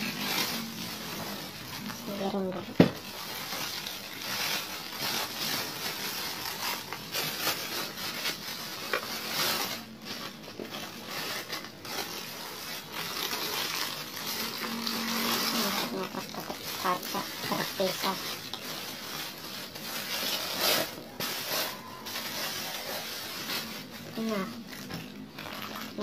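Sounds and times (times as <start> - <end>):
plastic bag crinkling: 0.0 - 26.0.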